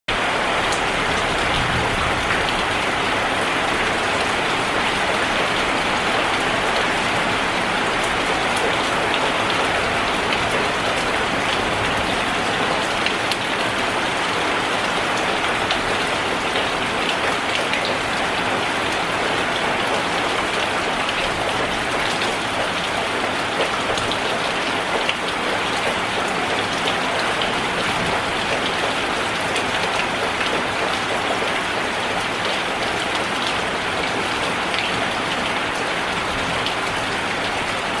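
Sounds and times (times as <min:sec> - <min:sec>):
heavy rain on a metal roof: 0:00.1 - 0:38.0.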